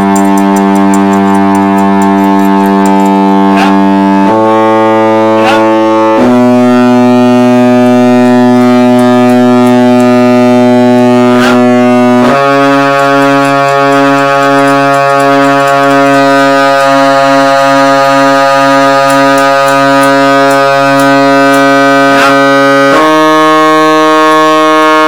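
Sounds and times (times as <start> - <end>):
tuning rod knocking on pipes: 0.0 - 23.3
organ pipes holding long notes: 0.0 - 25.0.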